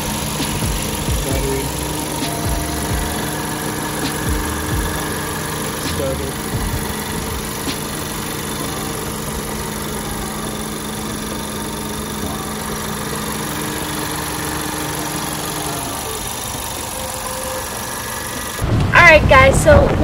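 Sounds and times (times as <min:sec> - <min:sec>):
car engine idling: 0:00.0 - 0:19.5.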